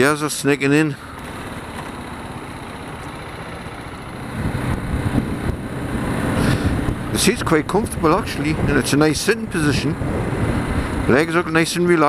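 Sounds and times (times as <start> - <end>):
road noise: 0.0 - 12.0
motorcycle engine accelerating: 1.0 - 11.3.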